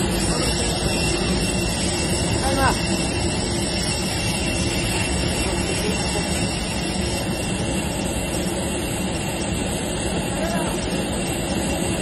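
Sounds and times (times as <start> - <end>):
constant high whine: 0.0 - 12.0
jet turbine roar: 0.0 - 12.0.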